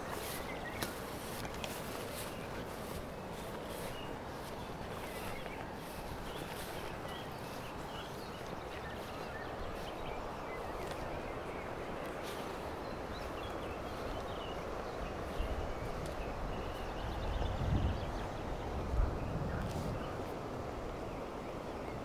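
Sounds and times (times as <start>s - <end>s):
soft steps through tall grass: 0.0s - 17.9s
wind rustling grass: 0.0s - 22.0s.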